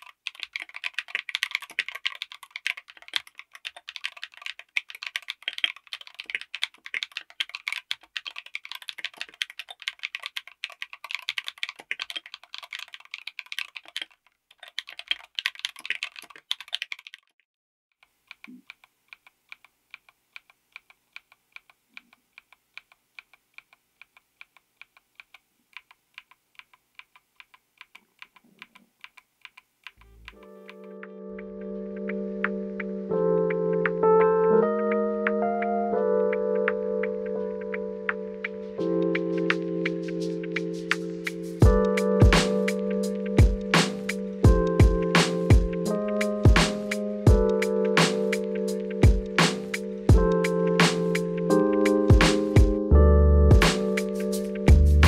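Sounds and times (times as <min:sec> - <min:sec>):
mechanical keyboard typing: 0:00.0 - 0:17.4, 0:18.0 - 0:32.9, 0:33.5 - 0:55.0.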